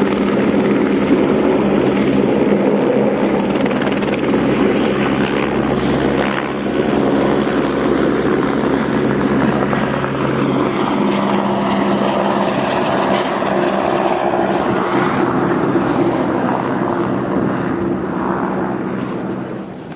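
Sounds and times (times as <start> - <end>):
helicopter turbine and rotor drone: 0.0 - 19.9.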